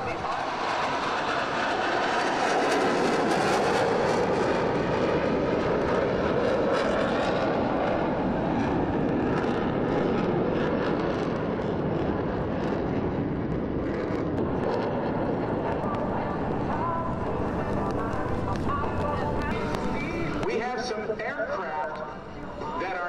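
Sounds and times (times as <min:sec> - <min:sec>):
fighter jet rumble: 0:00.0 - 0:20.7.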